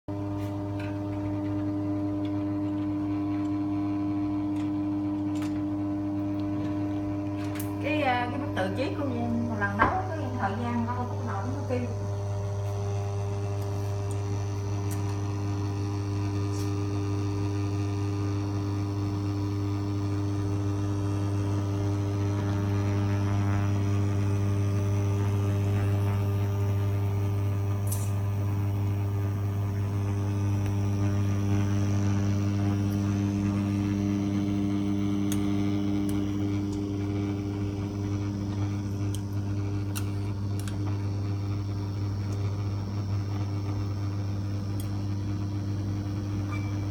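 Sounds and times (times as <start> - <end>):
induction hob electrical hum: 0.1 - 46.9.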